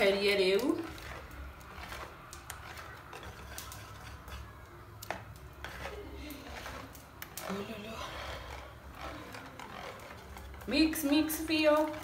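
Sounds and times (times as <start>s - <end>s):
whisk swishing in batter: 0.0s - 12.0s
whisk wires ticking on bowl: 0.0s - 12.0s.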